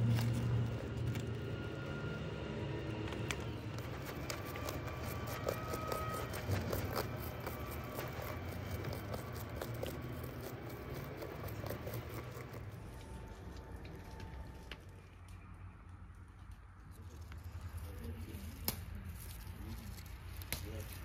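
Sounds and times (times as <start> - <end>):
fingers scratching sunflower florets: 0.0 - 1.7, 3.0 - 14.5, 16.5 - 21.0.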